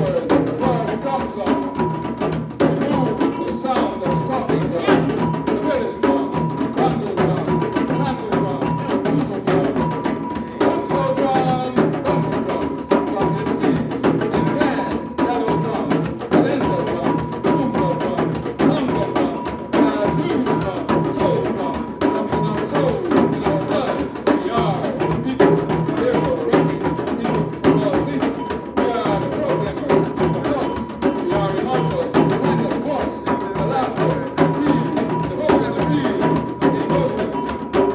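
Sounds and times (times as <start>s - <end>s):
fast drum and wood-block strikes: 0.0s - 37.9s
steady high tone: 0.0s - 37.9s.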